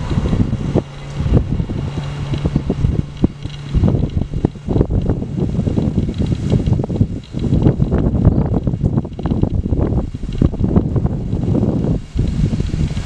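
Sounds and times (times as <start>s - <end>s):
steady low hum: 0.0s - 13.0s
wind buffeting microphone: 0.0s - 13.0s.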